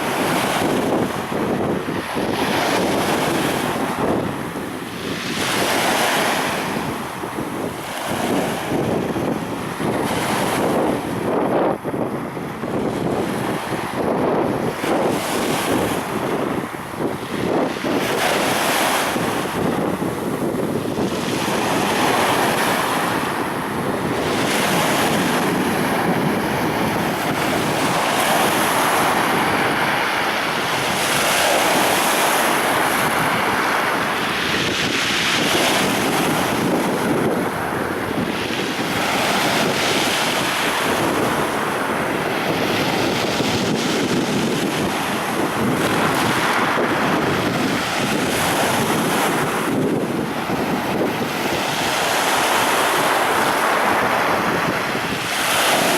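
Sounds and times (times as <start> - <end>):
sea waves breaking on shore: 0.0 - 55.9
wind buffeting microphone: 0.0 - 55.9.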